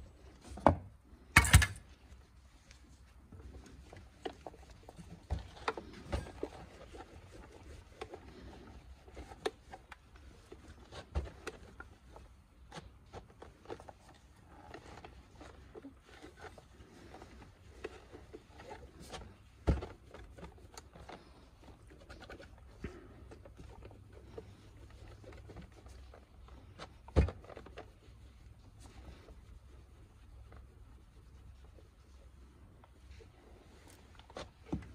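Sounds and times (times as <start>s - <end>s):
towel wiping plastic: 0.0s - 34.9s.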